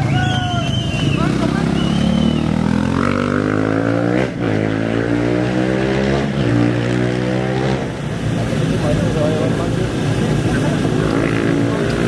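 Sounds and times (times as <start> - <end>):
race engine accelerating hard: 0.0 - 12.0.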